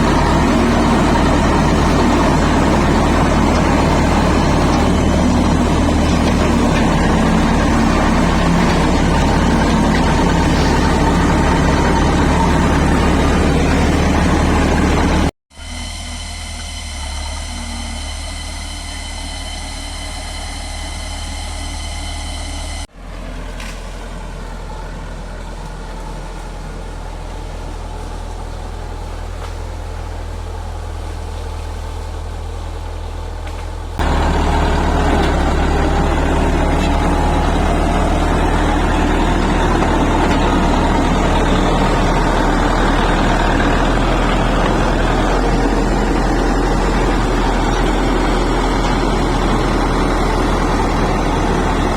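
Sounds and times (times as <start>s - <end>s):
high-pitched whine: 0.0s - 32.6s, 34.0s - 51.9s
heavy machine diesel engine rumbling: 0.0s - 51.9s.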